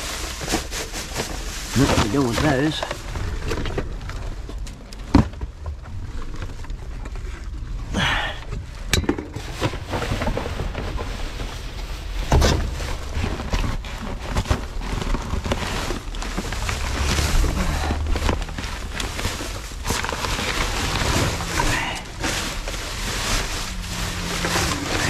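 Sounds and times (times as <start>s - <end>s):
knocks and clunks of rubbish: 0.0s - 6.0s, 8.5s - 25.0s
plastic garbage bags rustling: 0.0s - 25.0s.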